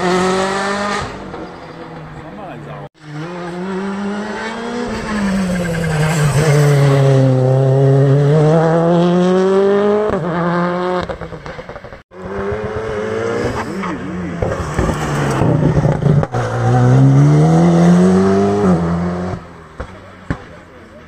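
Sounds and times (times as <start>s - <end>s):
rally car engine passing: 0.0s - 21.0s.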